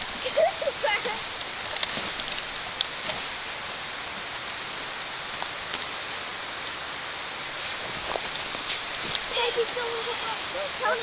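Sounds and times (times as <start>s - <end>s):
rain on dead leaves: 0.0s - 11.0s.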